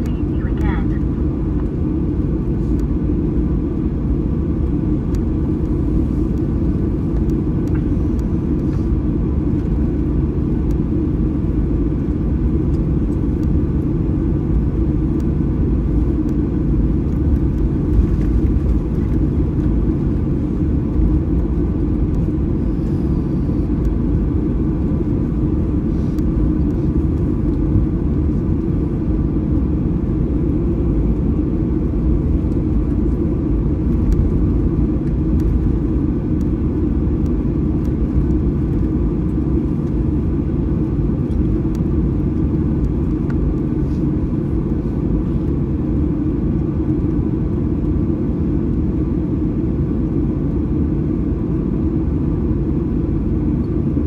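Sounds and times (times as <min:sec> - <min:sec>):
aircraft cabin rumble: 0:00.0 - 0:54.0
faint steady whine: 0:00.0 - 0:54.0.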